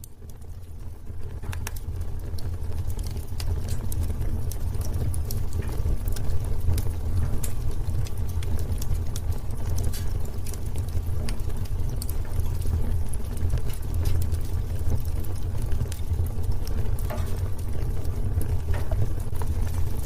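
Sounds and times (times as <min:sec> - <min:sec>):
fire burning in fireplace: 0:00.0 - 0:20.0
wood crackling and popping: 0:00.0 - 0:20.0.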